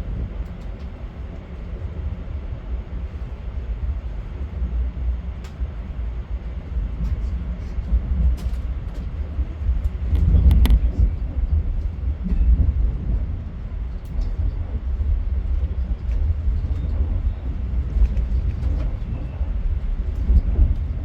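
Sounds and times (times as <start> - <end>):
train rumbling by: 0.0 - 21.0.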